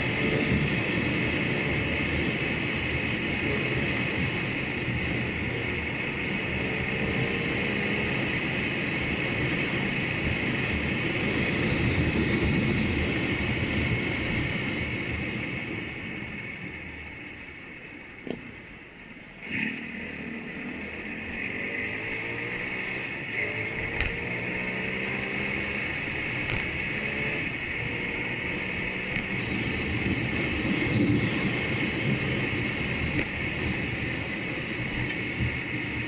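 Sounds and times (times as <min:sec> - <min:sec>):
road and wind noise: 0:00.0 - 0:36.0
vehicle engine running: 0:00.0 - 0:36.0.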